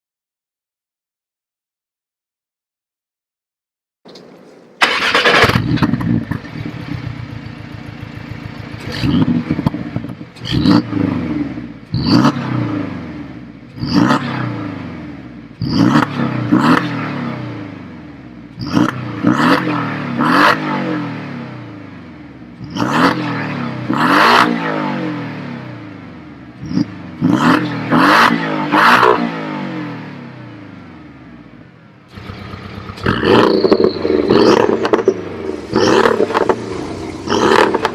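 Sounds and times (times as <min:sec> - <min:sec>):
car engine revving: 0:04.8 - 0:37.9.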